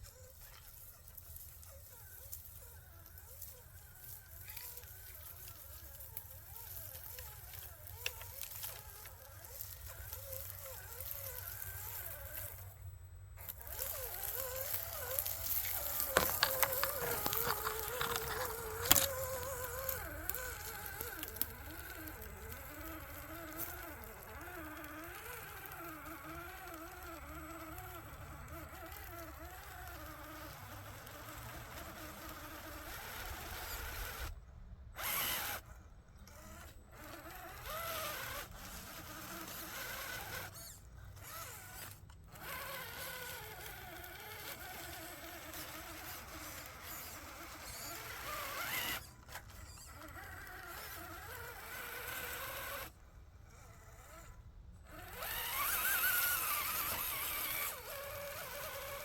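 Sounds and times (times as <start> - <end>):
rc car electric motor whining: 0.0 - 59.0.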